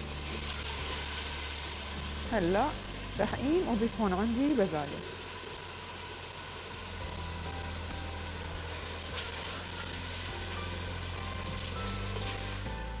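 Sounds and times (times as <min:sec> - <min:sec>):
meat and peas frying in oil: 0:00.0 - 0:13.0.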